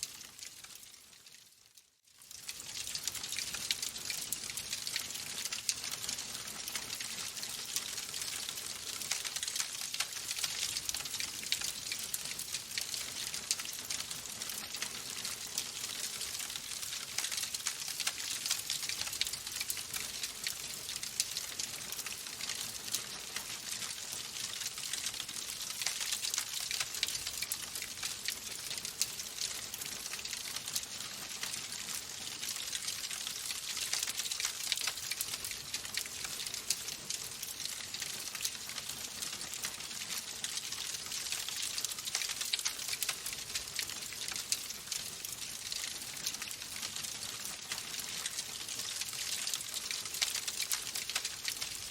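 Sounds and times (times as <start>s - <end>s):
wood fire crackling: 0.0s - 1.4s, 2.2s - 51.9s.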